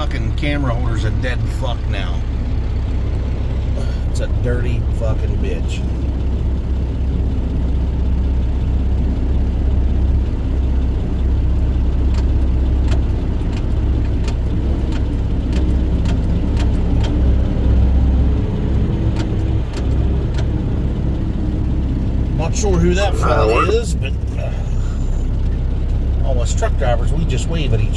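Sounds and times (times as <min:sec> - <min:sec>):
diesel truck engine droning: 0:00.0 - 0:27.9
sharp clicks and rattles: 0:00.1 - 0:22.8.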